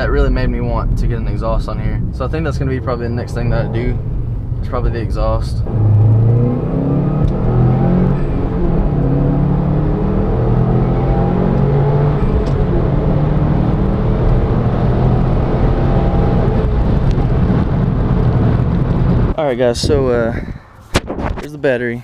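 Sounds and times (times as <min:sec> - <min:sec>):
car engine running: 0:00.0 - 0:19.4
road noise: 0:00.0 - 0:22.0.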